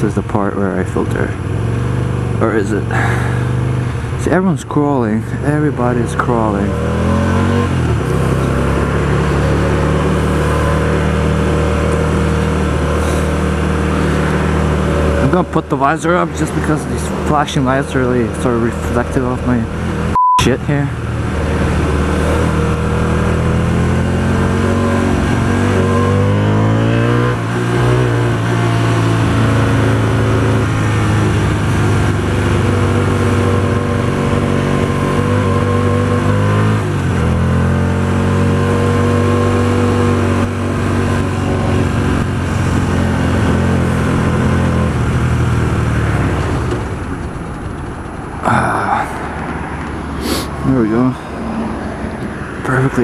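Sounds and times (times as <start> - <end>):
motorcycle engine accelerating: 0.0 - 20.2, 20.8 - 53.0.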